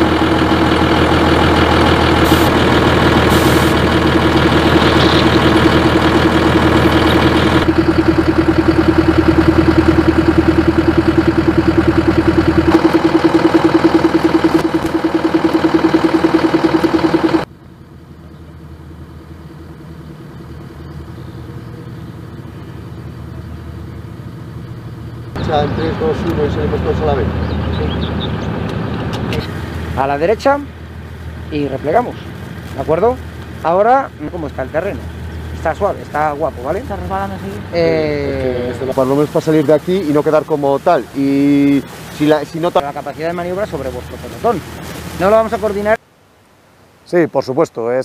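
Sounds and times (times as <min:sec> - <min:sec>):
diesel engine idling: 0:00.0 - 0:46.0
steady outdoor hiss: 0:00.0 - 0:48.0.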